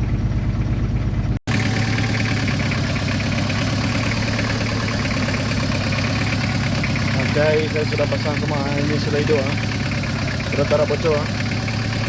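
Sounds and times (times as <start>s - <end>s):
diesel lorry engine idling: 0.0s - 12.0s.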